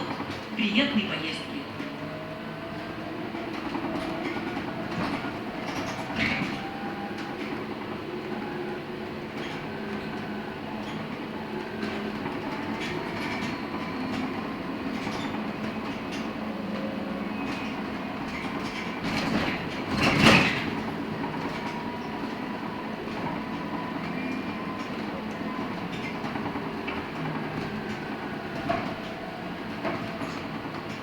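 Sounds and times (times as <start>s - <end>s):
rattles and knocks of bus body: 1.8s - 31.0s.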